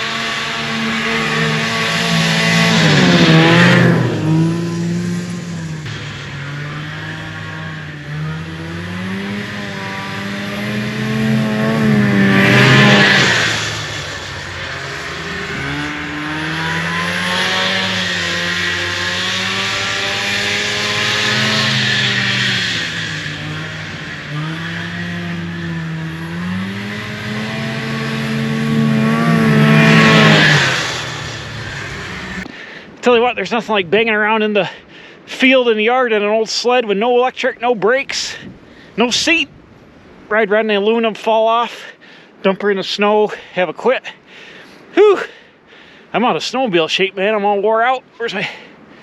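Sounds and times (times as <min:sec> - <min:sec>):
snowmobile engine revving: 0:00.0 - 0:39.6, 0:40.3 - 0:49.0.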